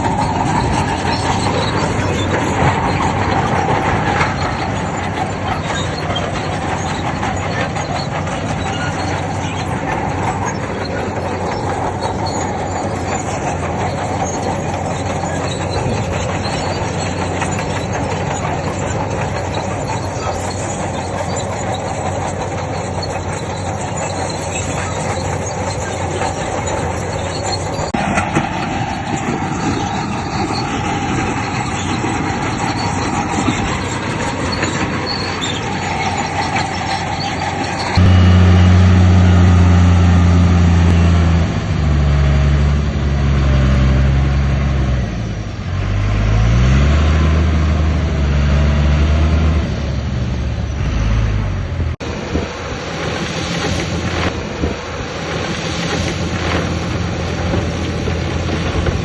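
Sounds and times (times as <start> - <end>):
bulldozer diesel engine: 0.0 - 59.0
steel crawler tracks: 0.0 - 59.0.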